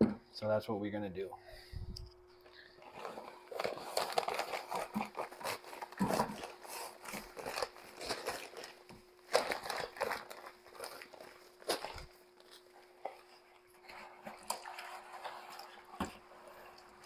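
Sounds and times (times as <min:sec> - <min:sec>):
powder bag crinkling and rustling: 0:02.4 - 0:17.0.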